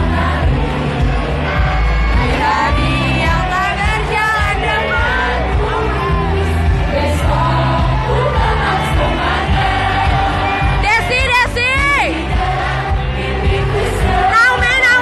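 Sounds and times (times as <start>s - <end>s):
women singing pop song: 0.0s - 15.0s.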